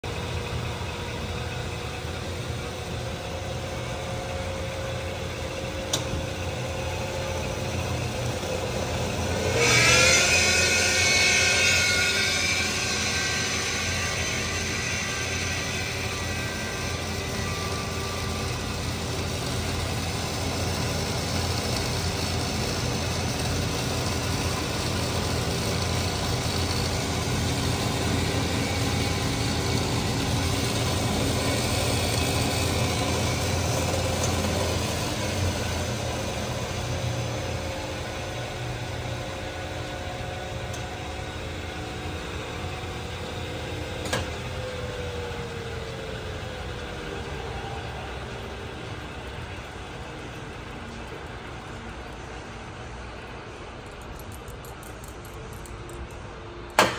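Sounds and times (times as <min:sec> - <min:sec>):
lathe spindle humming and whining: 0:00.0 - 0:56.9.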